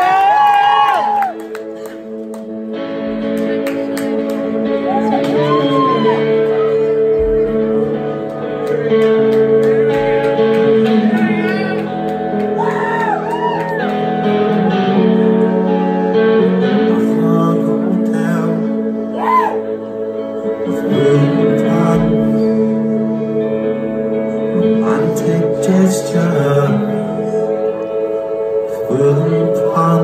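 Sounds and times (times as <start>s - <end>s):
rock band playing live: 1.5s - 30.0s.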